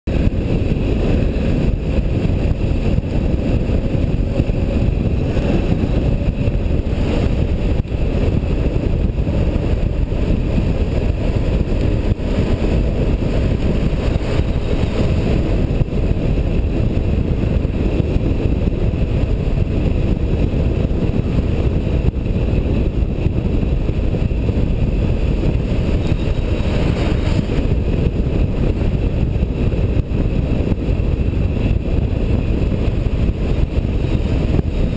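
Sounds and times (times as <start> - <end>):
vehicle running noise: 0.1 - 34.9
wind buffeting microphone: 0.1 - 34.9.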